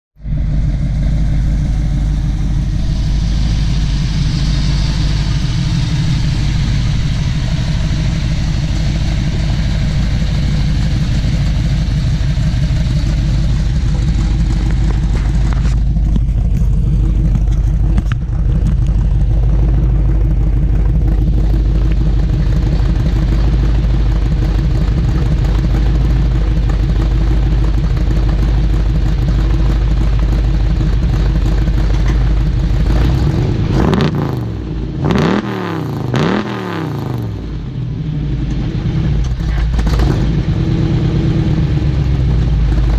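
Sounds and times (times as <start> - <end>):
car engine idling with exhaust rumble: 0.2 - 42.9.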